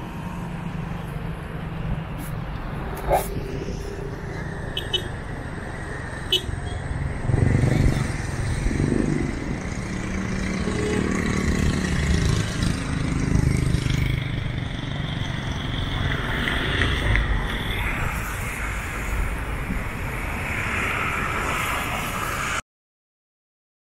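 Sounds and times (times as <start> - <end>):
outdoor noise: 0.0 - 22.6
vehicle engines rumbling past: 0.0 - 22.6.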